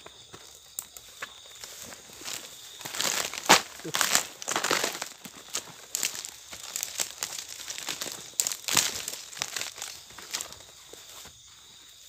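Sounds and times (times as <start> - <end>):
footsteps through crackling brush: 0.0 - 12.0.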